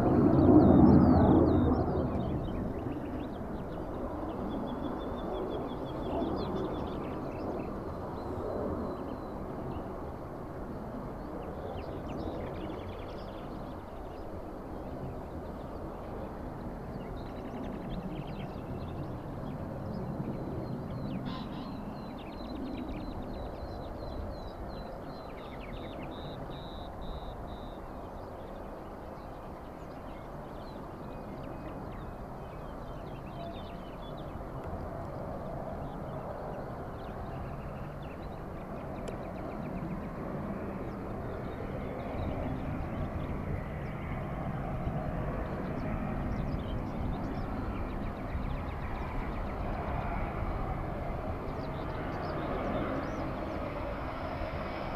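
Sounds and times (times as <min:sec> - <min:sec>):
small birds chirping: 0:10.7 - 0:54.9.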